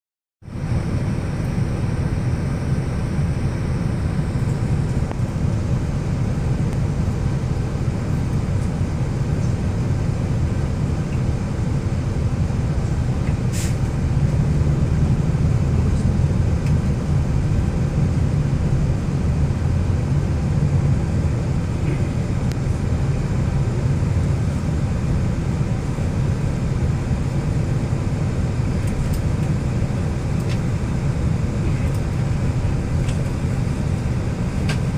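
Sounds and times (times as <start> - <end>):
vehicle engine rumble: 0.4 - 34.9.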